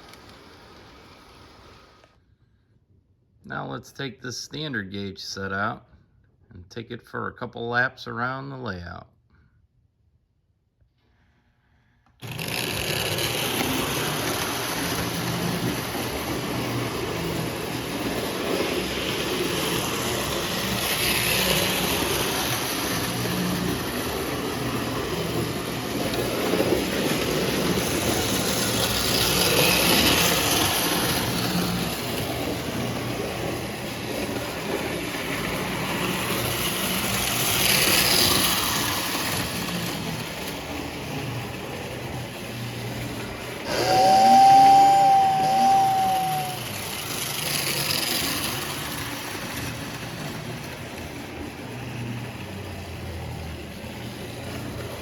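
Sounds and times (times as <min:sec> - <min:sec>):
toy train running on track: 0:00.0 - 0:02.1, 0:12.1 - 0:55.0.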